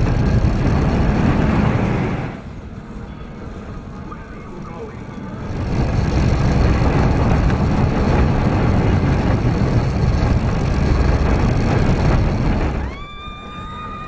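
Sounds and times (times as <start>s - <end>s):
wind on microphone: 0.0s - 4.1s, 5.2s - 14.0s
roller coaster rumbling on track: 0.0s - 14.0s.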